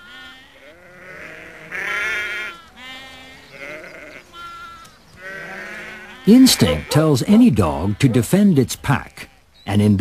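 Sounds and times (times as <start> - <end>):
sheep bleating: 0.0 - 9.5.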